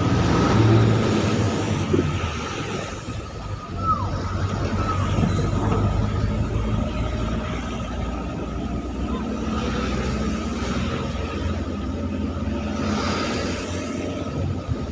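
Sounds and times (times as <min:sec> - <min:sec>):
tyres hissing on wet road: 0:00.0 - 0:14.4
vehicle engines rumbling: 0:00.0 - 0:14.9.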